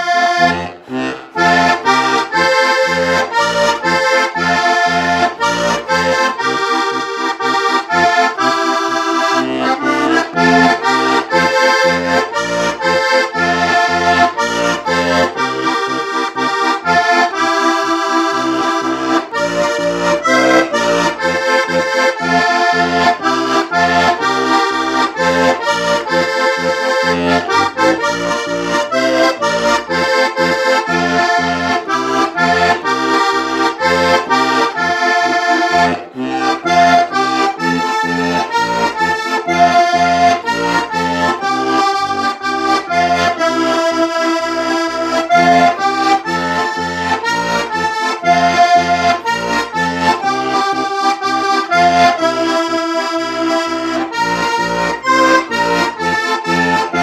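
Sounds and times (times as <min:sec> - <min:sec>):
button accordion folk tune: 0:00.0 - 0:57.0.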